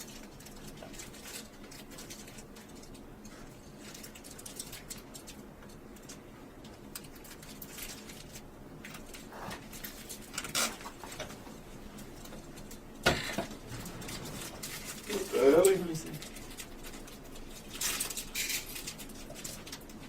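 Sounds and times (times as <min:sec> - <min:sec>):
small objects clicking and rustling: 0:00.0 - 0:11.4, 0:12.2 - 0:20.0.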